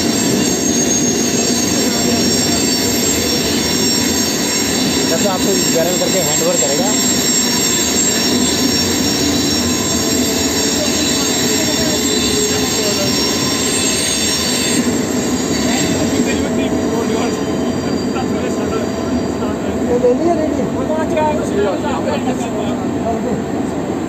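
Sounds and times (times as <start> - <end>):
high-pitched wheel squeal: 0.0 - 21.6.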